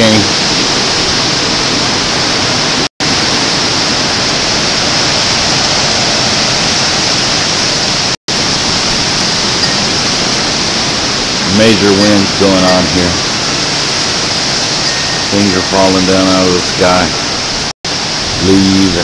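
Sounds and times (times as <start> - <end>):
wind and driving rain: 0.0 - 19.0.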